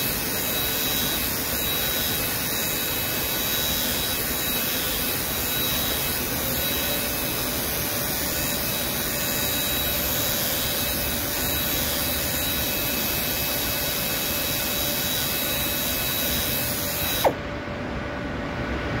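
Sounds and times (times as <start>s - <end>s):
pneumatic tool whining: 0.0s - 17.4s.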